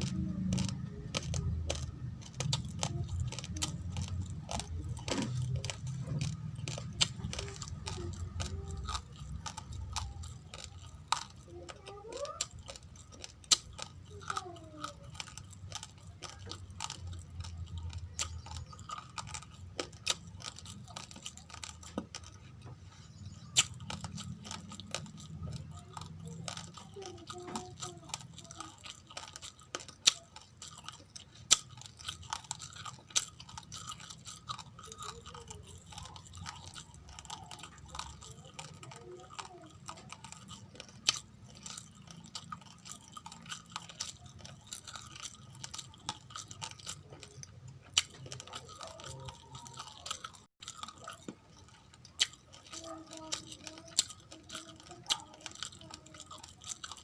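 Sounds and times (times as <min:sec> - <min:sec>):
chewing raw rice grains: 0:00.0 - 0:57.0.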